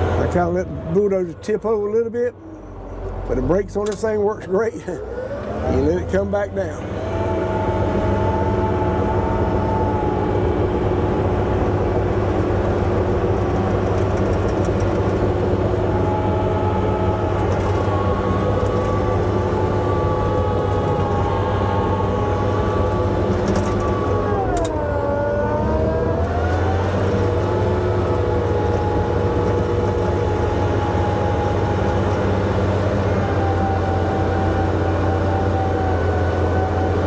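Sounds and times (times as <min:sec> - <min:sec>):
bulldozer diesel engine: 0:00.0 - 0:37.0.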